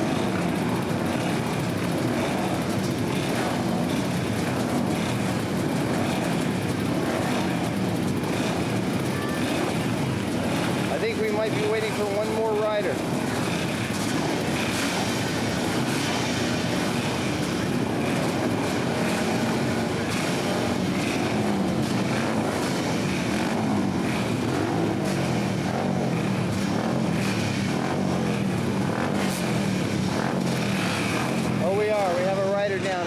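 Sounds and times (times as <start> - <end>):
motorcycles idling: 0.0 - 33.0.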